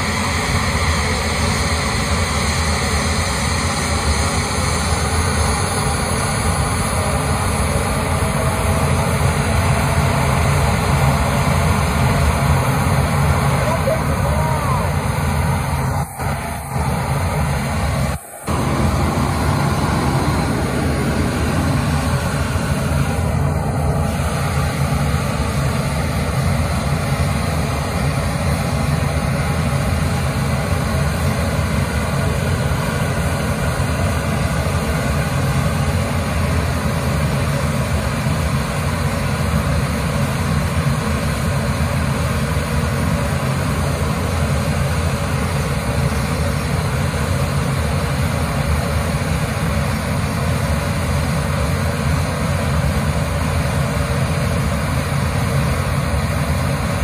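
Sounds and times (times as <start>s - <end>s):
jet engine rumble: 0.0s - 38.4s, 39.0s - 57.0s.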